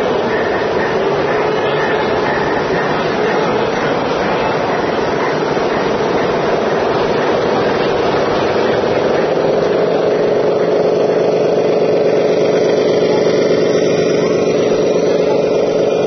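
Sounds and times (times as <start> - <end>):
toy truck motor drone: 0.0 - 16.0.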